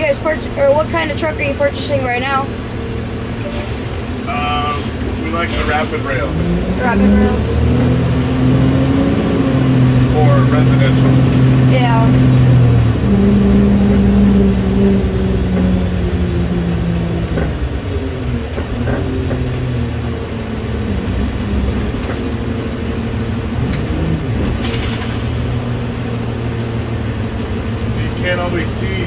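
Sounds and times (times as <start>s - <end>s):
garbage truck engine running: 0.0s - 29.0s.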